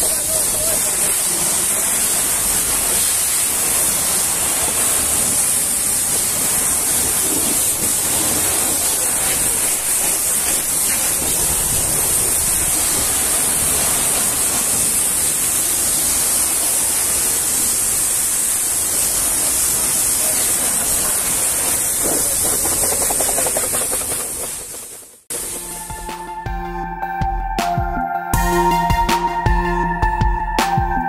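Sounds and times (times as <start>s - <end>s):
pressure washer jet spraying: 0.0s - 26.4s.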